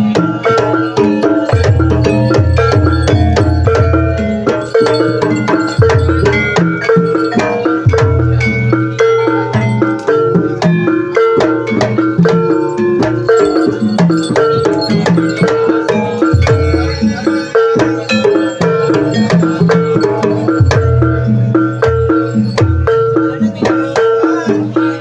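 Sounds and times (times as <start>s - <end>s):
drums: 0.0s - 25.0s
tuned percussion pattern: 0.0s - 25.0s.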